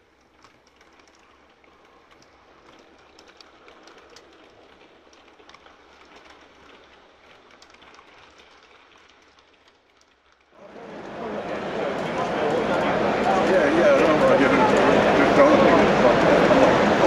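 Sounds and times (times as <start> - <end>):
model train wheels rumbling: 0.0 - 17.0
small irregular track clicks: 0.0 - 17.0.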